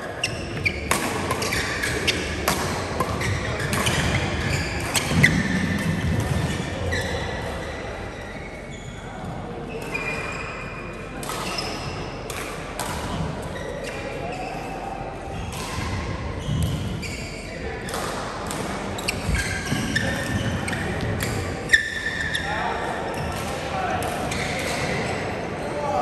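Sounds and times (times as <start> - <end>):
sneaker squeaks on floor: 0.0 - 12.2, 13.0 - 17.7, 18.5 - 23.6, 24.2 - 26.0.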